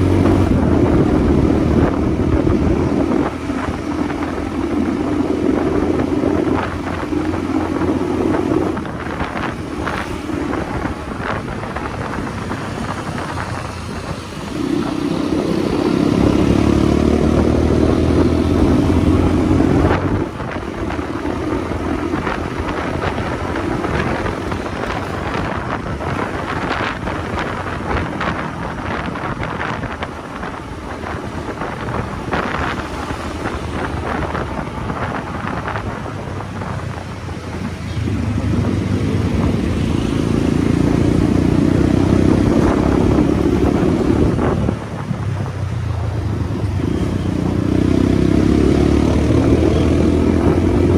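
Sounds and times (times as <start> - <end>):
motorcycle engine running: 0.0 - 50.9
wind rushing over microphone: 0.0 - 50.9.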